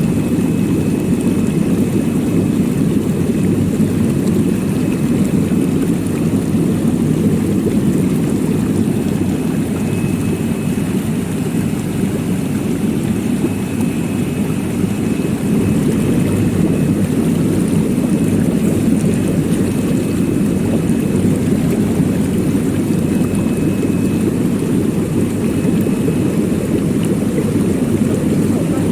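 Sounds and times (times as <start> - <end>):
washing machine rumbling: 0.0 - 28.9.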